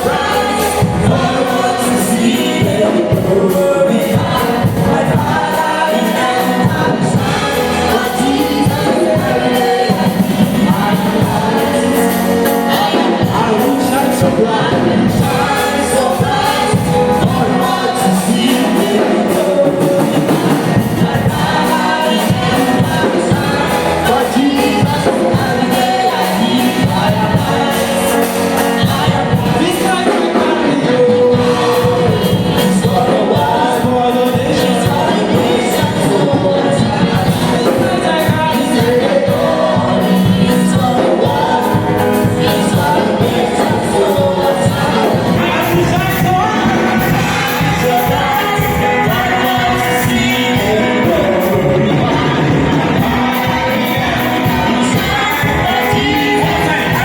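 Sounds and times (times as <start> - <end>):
gospel singing with band: 0.0 - 57.0.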